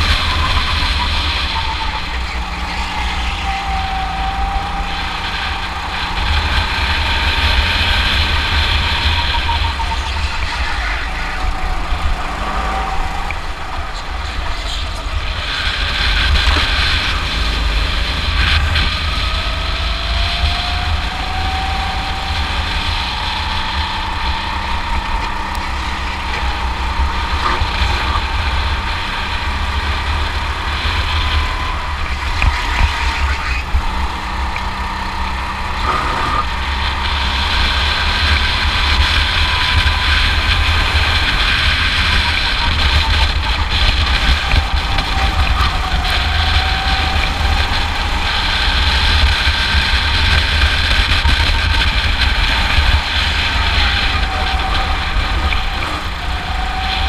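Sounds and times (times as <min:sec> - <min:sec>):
go-kart engine whine: 0:00.0 - 0:57.0
wind rumble on microphone: 0:00.0 - 0:57.0.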